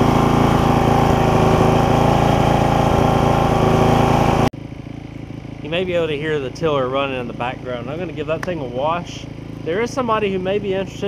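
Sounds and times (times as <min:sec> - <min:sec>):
tiller engine running: 0:00.0 - 0:11.0.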